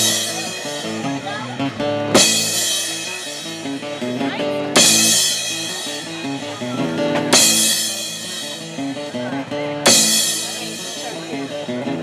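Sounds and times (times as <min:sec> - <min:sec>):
drum kit: 0:00.0 - 0:12.0
electric guitar riff: 0:00.0 - 0:12.0.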